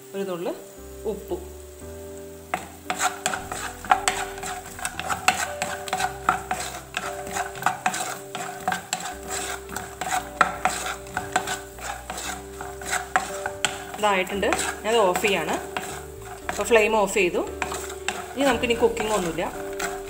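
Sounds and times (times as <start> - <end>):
oil sizzling: 0.0 - 20.0
spatula scraping nuts in pan: 2.4 - 20.0.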